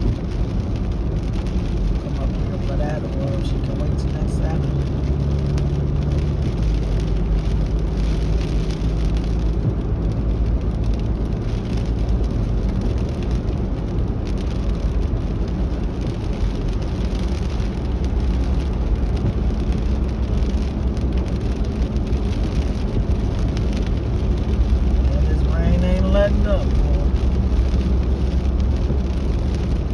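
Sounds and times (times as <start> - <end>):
car engine and road rumble: 0.0 - 29.9
rain hissing on wet road: 0.0 - 29.9.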